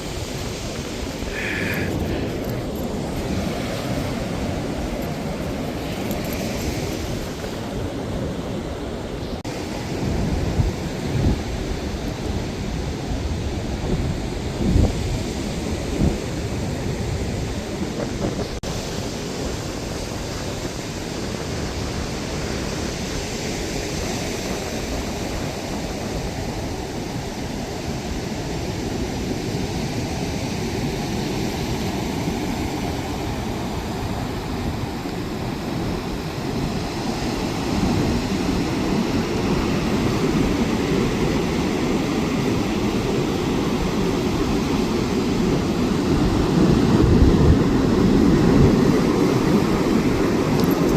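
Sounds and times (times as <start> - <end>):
wind buffeting microphone: 0.0 - 18.6, 19.2 - 50.9
surf washing onto beach: 0.0 - 50.9.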